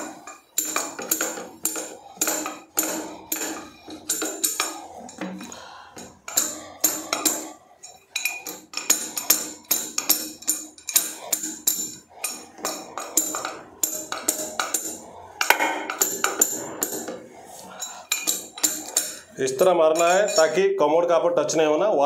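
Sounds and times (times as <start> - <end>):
wrench tapping metallic clinks: 0.0 - 20.6.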